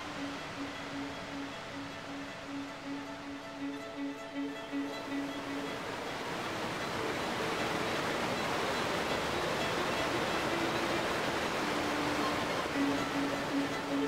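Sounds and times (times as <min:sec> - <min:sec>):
rushing water: 0:00.0 - 0:14.0
soft instrumental music: 0:00.0 - 0:14.0.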